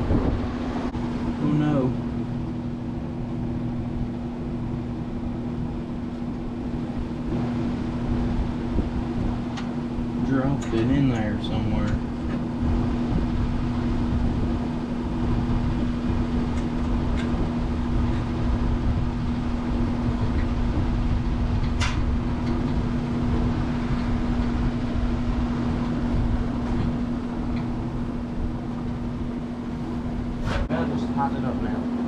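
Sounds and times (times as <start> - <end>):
large drum fan running: 0.0 - 32.0.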